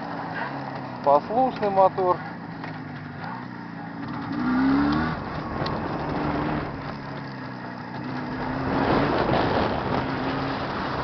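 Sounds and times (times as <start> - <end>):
two-stroke engine running: 0.0 - 11.0.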